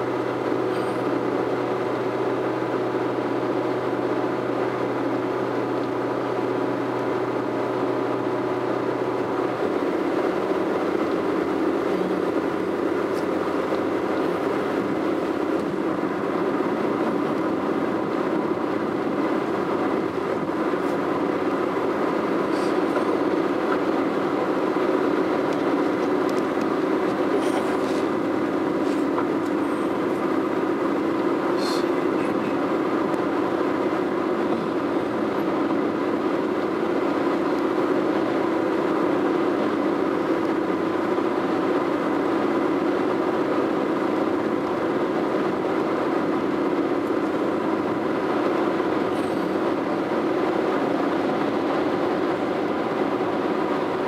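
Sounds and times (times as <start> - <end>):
tyre and engine drone: 0.0 - 54.0.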